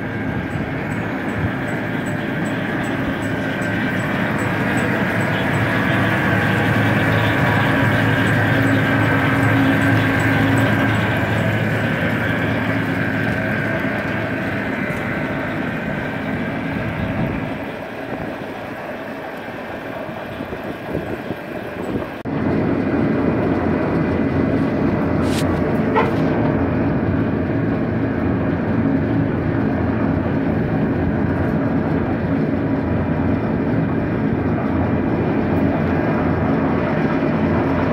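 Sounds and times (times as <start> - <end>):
mechanical drone: 0.0 - 37.9.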